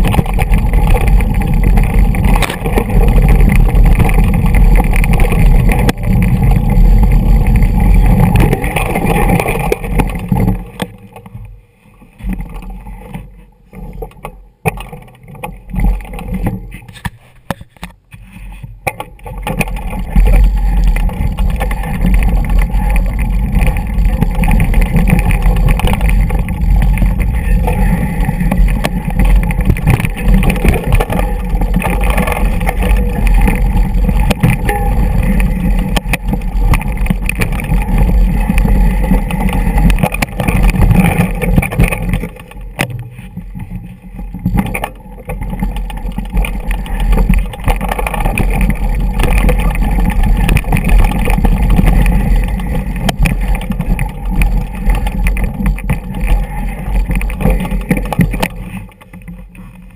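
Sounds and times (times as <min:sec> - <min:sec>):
bike rolling over rocky trail: 0:00.0 - 0:59.9.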